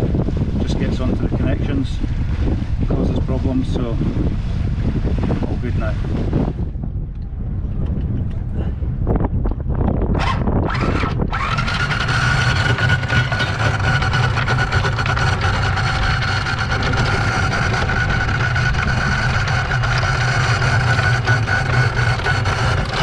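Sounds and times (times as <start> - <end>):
anchor windlass motor whine: 0.0 - 23.0.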